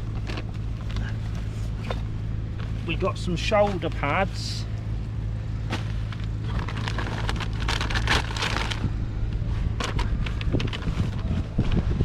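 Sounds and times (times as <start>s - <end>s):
items rustling and crackling: 0.0s - 4.5s, 5.6s - 12.0s
low hum: 0.0s - 12.0s.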